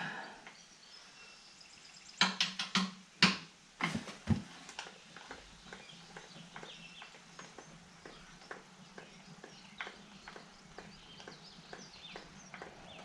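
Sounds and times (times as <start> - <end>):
sharp knocks and clicks on mower: 2.2 - 13.0.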